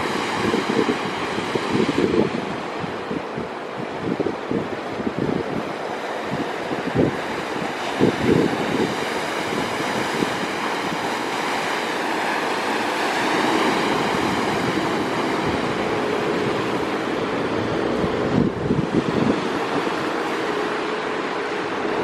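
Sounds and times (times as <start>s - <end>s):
rough sea rushing: 0.0s - 22.0s
wind buffeting microphone: 0.0s - 22.0s.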